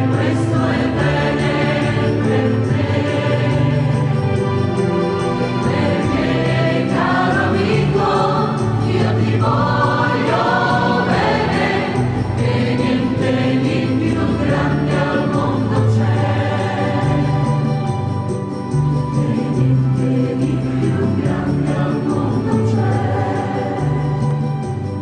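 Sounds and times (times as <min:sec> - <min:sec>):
women's choir singing: 0:00.0 - 0:04.6, 0:05.4 - 0:18.1, 0:19.1 - 0:24.5.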